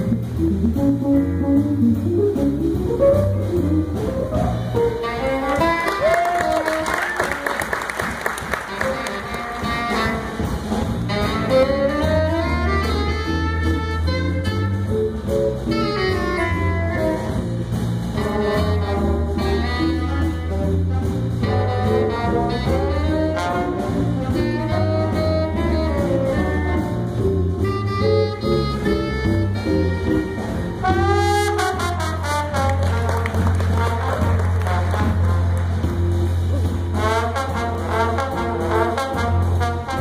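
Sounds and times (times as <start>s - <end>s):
jazz big band playing: 0.0s - 40.0s
saxophones and brass melody: 0.0s - 40.0s
steady bass notes: 0.0s - 40.0s.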